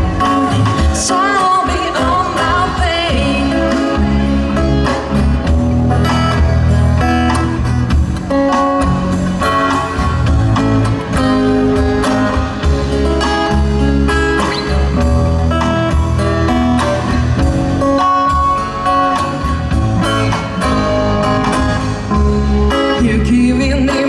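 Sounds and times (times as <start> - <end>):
lead guitar: 0.0 - 24.0
live band instrumental: 0.0 - 24.0
steady bass: 0.0 - 24.0.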